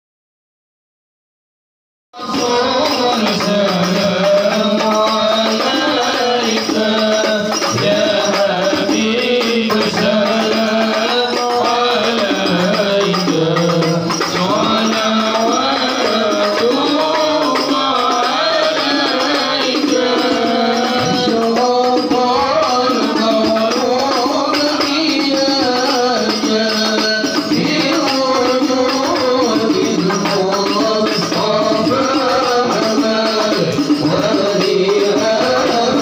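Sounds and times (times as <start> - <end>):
hand-struck frame drums: 2.2 - 36.0
voices singing devotional praise: 2.2 - 36.0.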